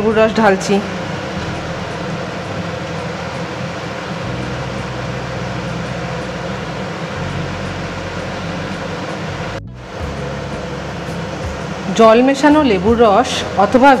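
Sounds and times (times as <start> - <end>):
machine hum with airy hiss: 0.0 - 14.0.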